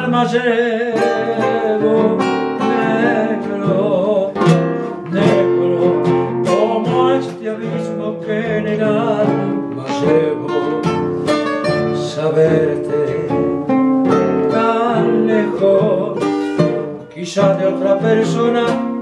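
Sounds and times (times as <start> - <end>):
classical guitars playing: 0.0 - 19.0.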